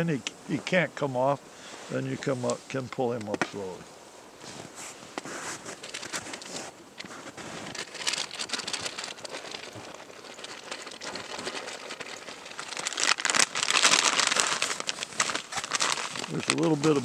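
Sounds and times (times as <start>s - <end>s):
rustling and crinkling handling noise: 0.0s - 17.0s.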